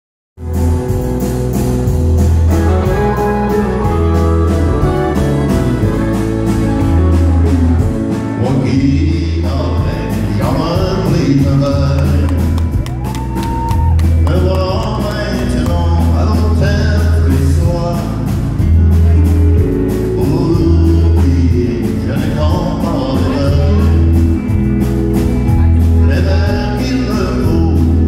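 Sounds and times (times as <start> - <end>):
live country band playing: 0.4 - 28.0
person singing: 2.9 - 24.5, 25.7 - 28.0.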